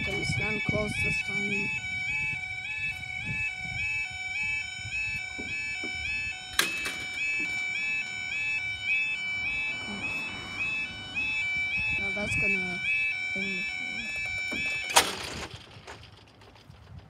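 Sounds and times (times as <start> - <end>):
level crossing two-tone alarm: 0.0 - 15.5.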